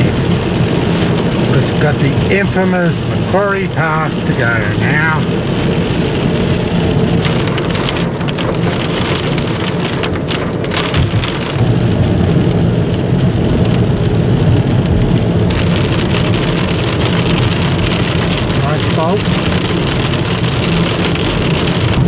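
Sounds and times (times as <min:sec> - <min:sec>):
rain hitting car windscreen: 0:00.0 - 0:22.0
road and engine noise: 0:00.0 - 0:22.0.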